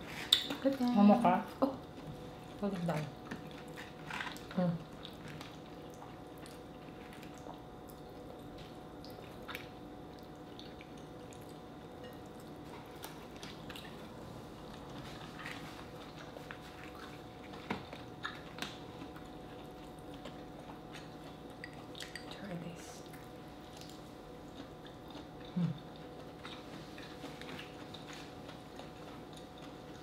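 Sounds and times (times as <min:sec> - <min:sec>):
faint steady hum: 0:00.0 - 0:30.0
chewing: 0:01.8 - 0:22.4, 0:23.0 - 0:30.0.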